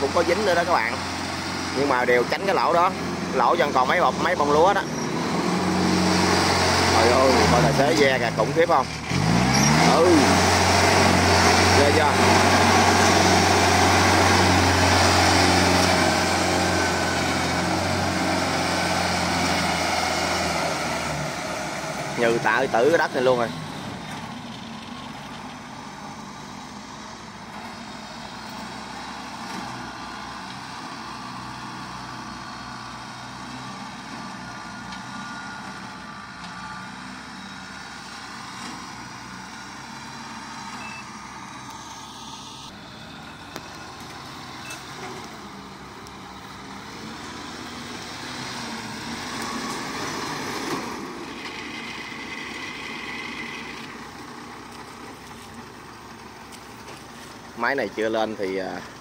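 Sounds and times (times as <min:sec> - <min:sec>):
diesel engines running under load: 0:00.0 - 0:59.0.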